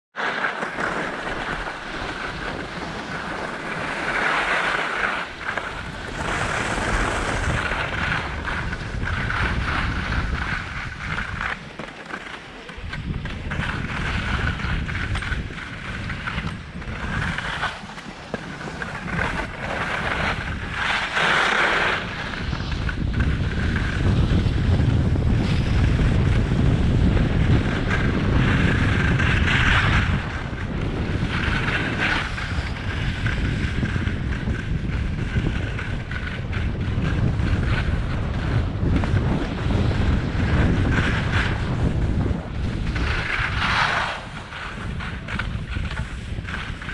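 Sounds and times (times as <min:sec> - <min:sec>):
skis scraping on snow: 0:00.2 - 0:46.9
wind rushing over microphone: 0:00.2 - 0:46.9.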